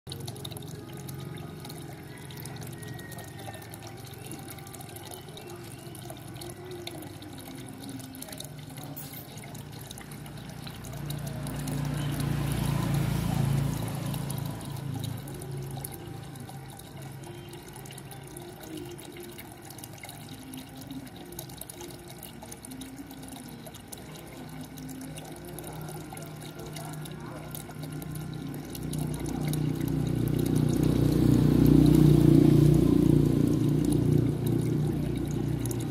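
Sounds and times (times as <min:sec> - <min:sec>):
water stream splashing into pond: 0:00.1 - 0:35.9.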